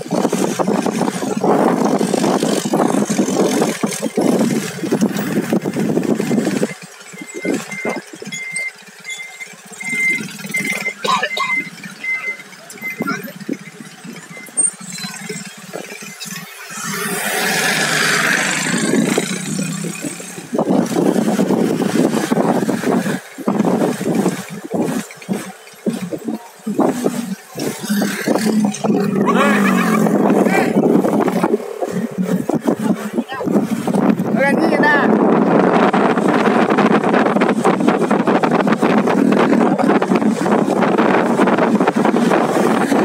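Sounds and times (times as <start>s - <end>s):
buffeting wind noise: 0.0s - 9.0s, 9.7s - 43.0s
motorcycle engine running: 0.0s - 43.0s
road and traffic noise: 0.0s - 43.0s.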